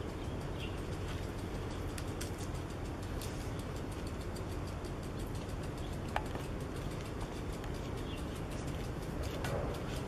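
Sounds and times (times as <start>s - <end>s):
faint ticks: 0.0s - 10.0s.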